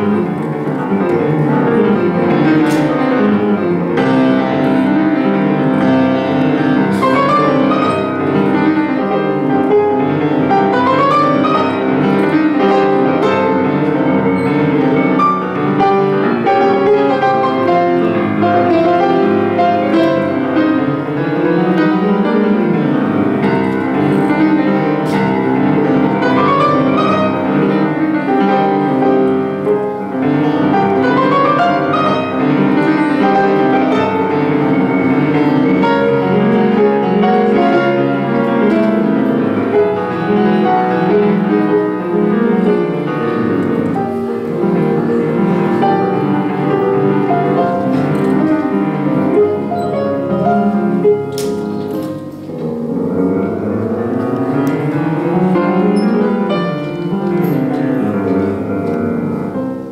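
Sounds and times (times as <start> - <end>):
fast classical piano piece: 0.0 - 59.9.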